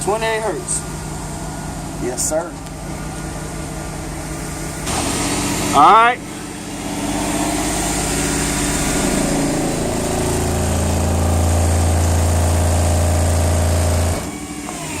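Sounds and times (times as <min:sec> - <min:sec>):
loud low bass tone from subwoofers: 0:00.0 - 0:15.0
vehicle engine idling: 0:00.0 - 0:15.0.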